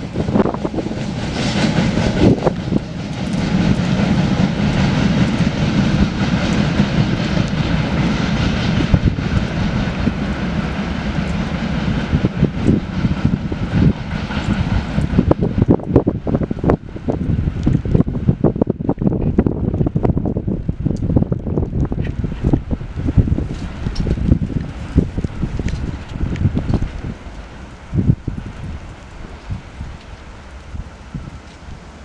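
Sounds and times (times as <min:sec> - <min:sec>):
freight train rumbling on rails: 0:00.0 - 0:32.0.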